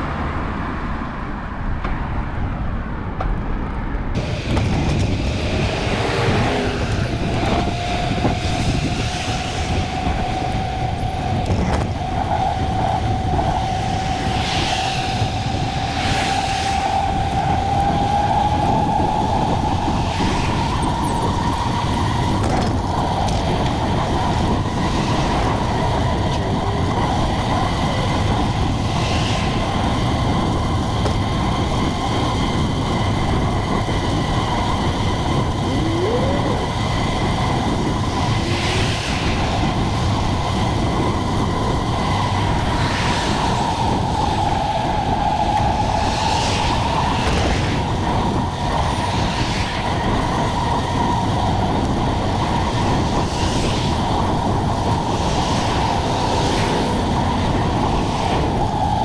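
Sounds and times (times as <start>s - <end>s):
wind and road noise: 0.0s - 59.0s
thin whine: 4.2s - 59.0s.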